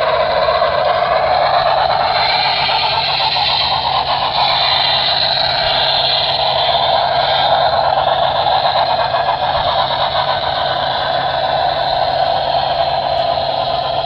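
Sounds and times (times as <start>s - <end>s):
model train running: 0.0s - 14.0s.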